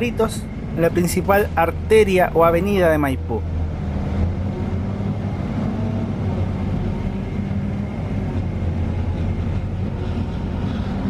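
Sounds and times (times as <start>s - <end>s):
bus engine drone: 0.0s - 11.0s
road rumble: 0.0s - 11.0s.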